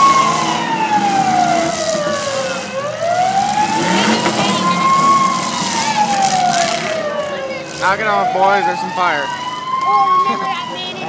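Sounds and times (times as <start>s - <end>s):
car engines running: 0.0s - 11.0s
wailing siren: 0.0s - 11.0s.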